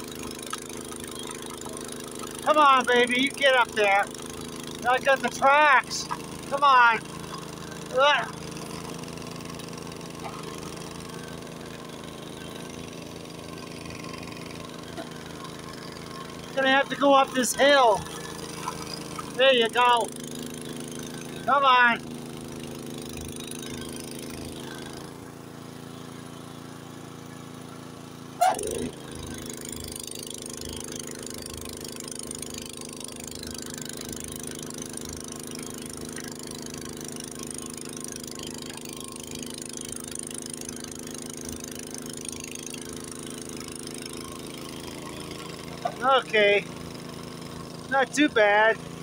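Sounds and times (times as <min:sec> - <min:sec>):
snowblower engine running: 0:00.0 - 0:49.0.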